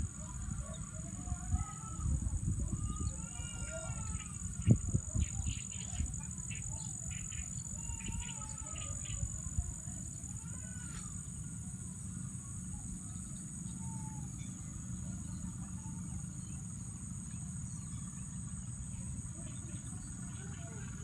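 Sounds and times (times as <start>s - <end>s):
insect chorus trilling: 0.0s - 21.0s.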